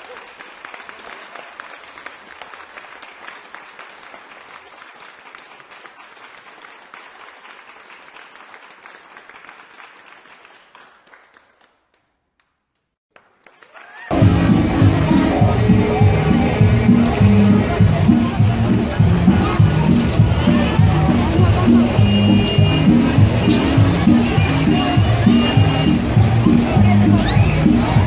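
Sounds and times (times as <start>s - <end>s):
crowd applauding: 0.0s - 11.9s, 13.1s - 28.0s.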